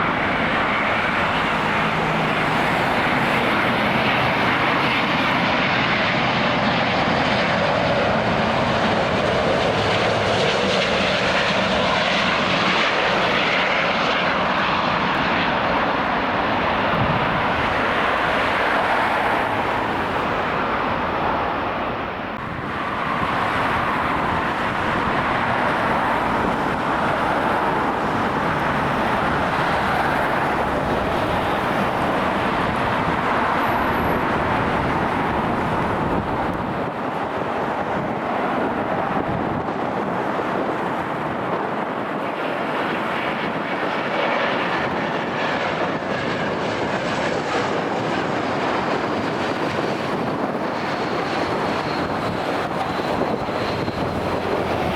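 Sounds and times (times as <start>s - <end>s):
jet engine rushing: 0.0s - 54.9s.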